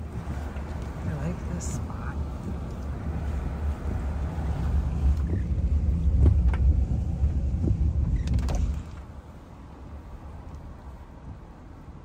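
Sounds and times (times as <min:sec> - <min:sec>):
car rumbling over rough driveway: 0:00.0 - 0:10.3.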